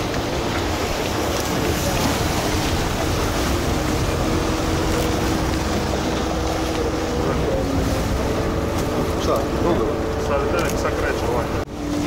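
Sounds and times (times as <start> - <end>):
boat engine humming: 0.0 - 12.0
water rushing: 0.0 - 12.0
wind: 0.0 - 12.0.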